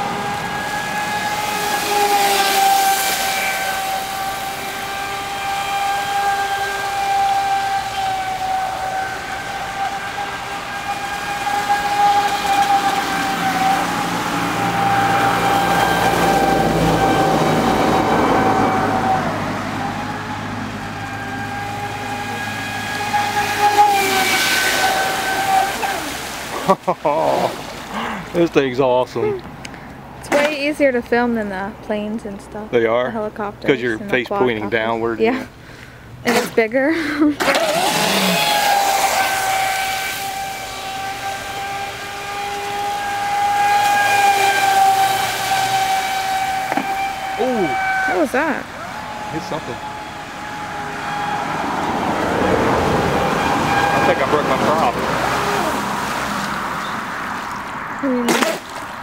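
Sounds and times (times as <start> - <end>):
toy boat motor whine: 0.0 - 28.5, 36.2 - 59.0.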